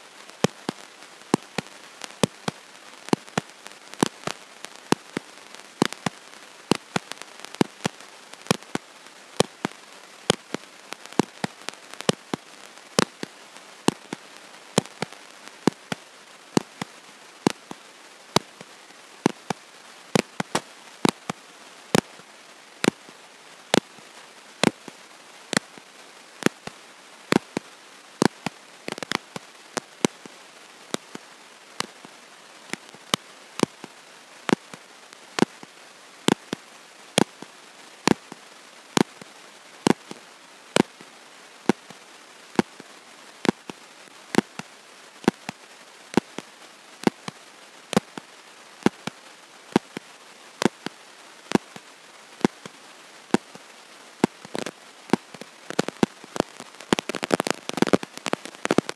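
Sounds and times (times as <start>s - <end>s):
dense crackle: 0.0s - 58.9s
steady hiss: 0.0s - 58.9s.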